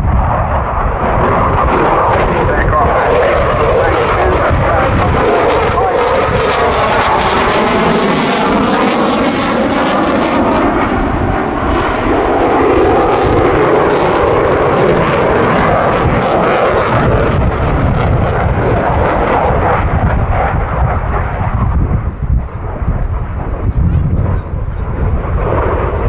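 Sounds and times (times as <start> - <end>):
jet engines roaring past: 0.0 - 26.0.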